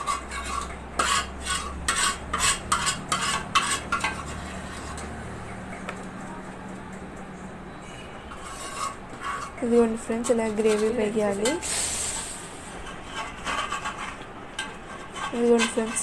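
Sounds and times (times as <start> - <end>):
spoon scraping a bowl: 0.0 - 5.2, 7.7 - 16.0.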